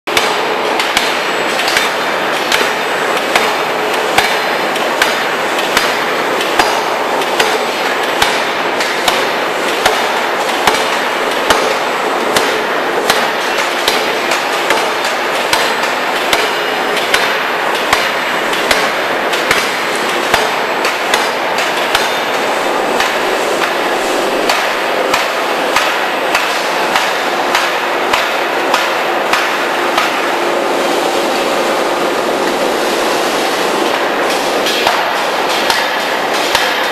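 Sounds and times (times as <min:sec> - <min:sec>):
machine and workshop noise: 0:00.1 - 0:36.9.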